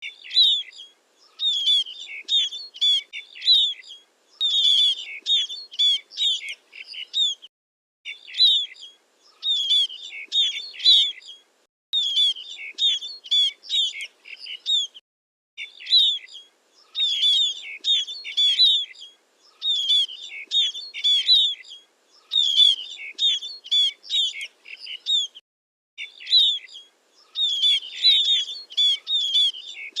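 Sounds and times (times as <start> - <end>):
bird chirps and trills: 0.0 - 7.5, 8.1 - 15.0, 15.6 - 25.4, 26.0 - 30.0.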